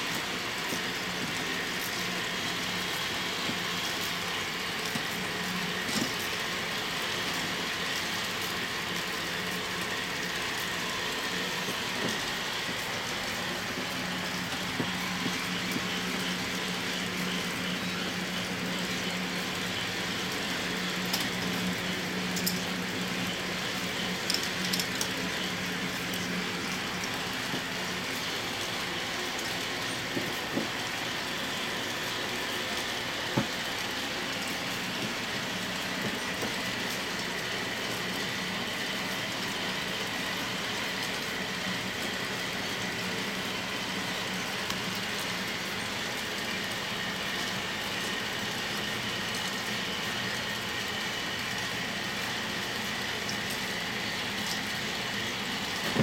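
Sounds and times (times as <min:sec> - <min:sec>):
balls rolling along plastic tracks: 0:00.0 - 0:50.0
whirring clatter of plastic gears: 0:00.0 - 0:56.0.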